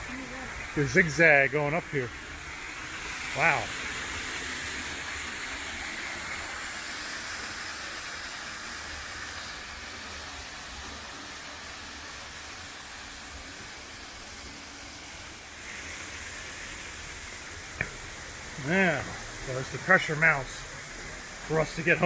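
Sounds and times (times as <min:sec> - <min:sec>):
water cascading down waterfall: 0:00.0 - 0:22.0.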